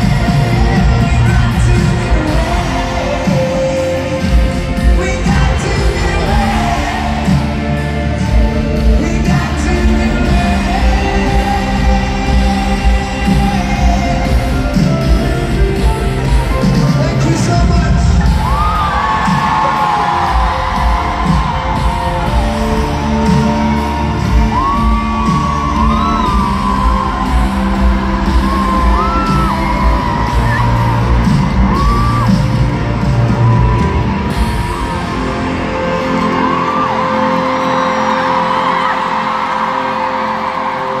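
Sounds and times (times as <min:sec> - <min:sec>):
fans yelling and whooping: 0:00.0 - 0:41.0
live pop-rock band playing: 0:00.0 - 0:41.0.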